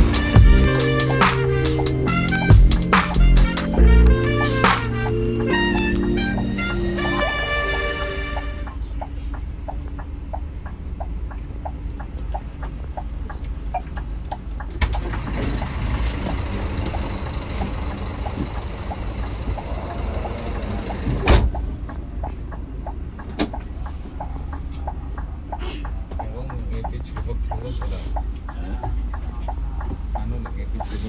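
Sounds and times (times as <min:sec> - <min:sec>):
engine and road rumble: 0:00.0 - 0:31.0
regular ticking: 0:00.0 - 0:31.0.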